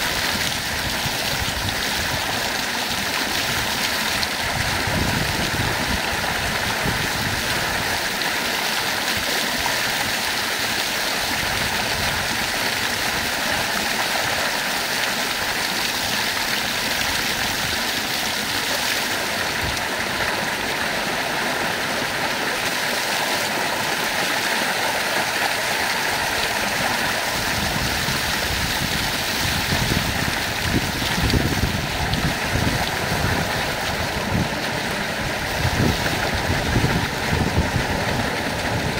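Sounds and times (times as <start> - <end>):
water pouring and splashing: 0.0 - 38.9.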